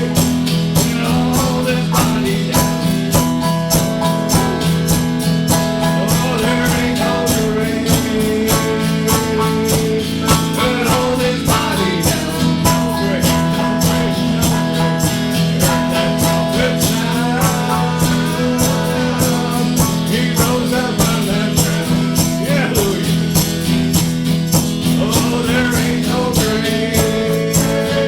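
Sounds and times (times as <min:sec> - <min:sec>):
bending melody line: 0:00.0 - 0:23.8
guitar strumming: 0:00.0 - 0:28.0.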